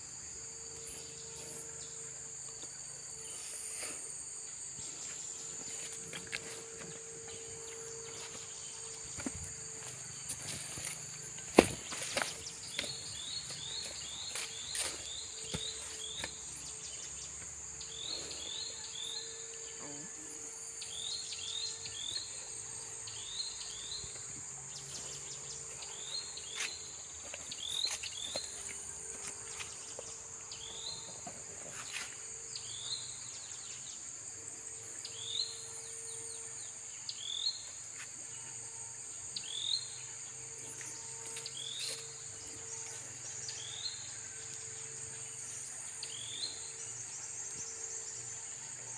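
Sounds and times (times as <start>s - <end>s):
high-pitched insect drone: 0.0s - 48.9s.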